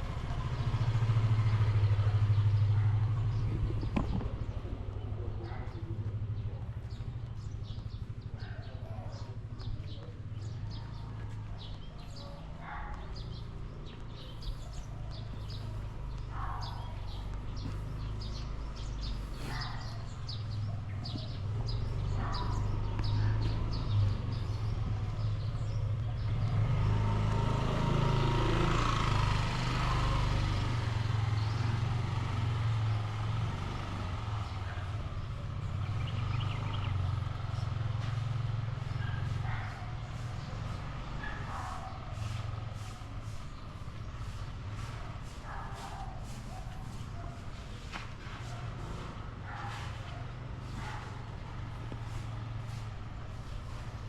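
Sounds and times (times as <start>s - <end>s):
birds chirping: 0.0s - 54.0s
low street rumble: 0.0s - 54.0s
vehicle passing: 0.0s - 54.0s.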